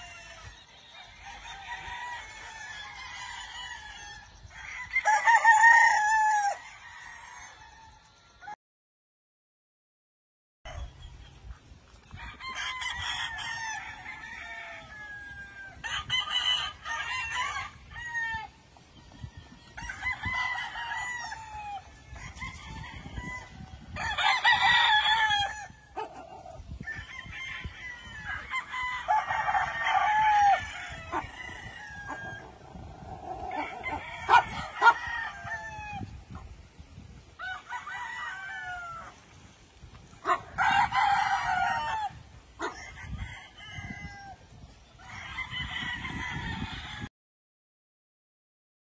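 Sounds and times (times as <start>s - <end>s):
roosters crowing: 0.0s - 8.6s, 12.1s - 36.6s, 37.2s - 47.1s.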